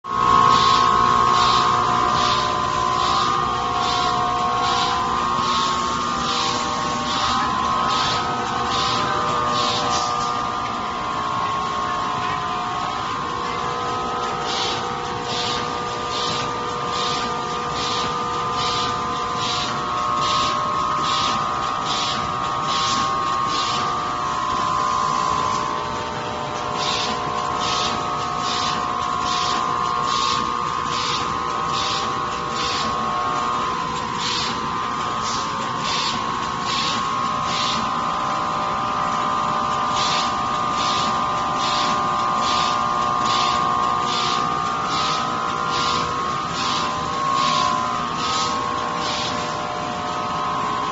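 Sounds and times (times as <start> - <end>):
machine motor whine: 0.1 - 50.9.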